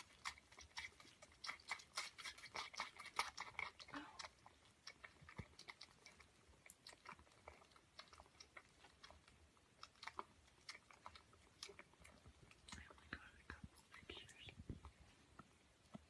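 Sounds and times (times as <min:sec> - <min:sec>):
kitten suckling wet clicks: 0:00.0 - 0:16.0.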